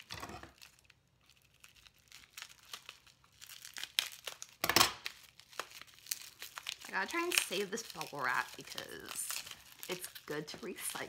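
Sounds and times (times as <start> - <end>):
bubble wrap crinkling and tearing: 0.0 - 11.0.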